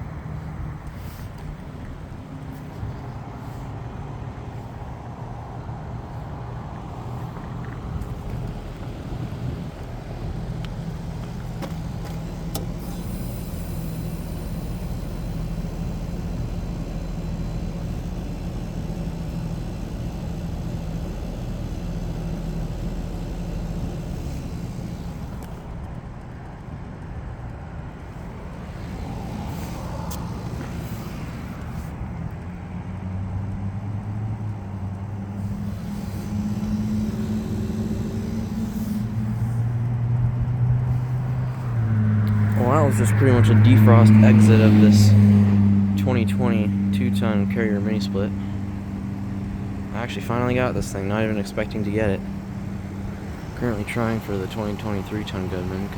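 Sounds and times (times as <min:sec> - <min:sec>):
heat pump unit humming: 0:00.0 - 0:26.4, 0:27.9 - 0:32.2, 0:33.8 - 0:55.9.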